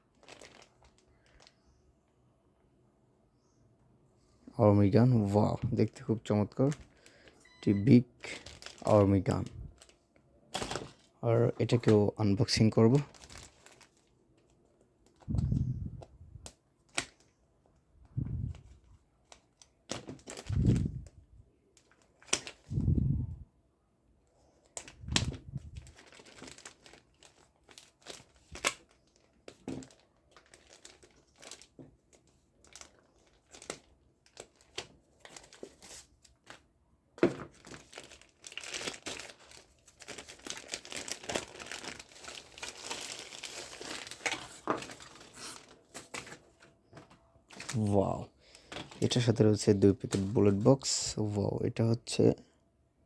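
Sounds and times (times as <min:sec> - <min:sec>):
plastic packaging crinkling: 0:00.0 - 0:01.7, 0:05.0 - 0:16.0, 0:18.4 - 0:21.1, 0:21.8 - 0:22.9, 0:24.6 - 0:51.0.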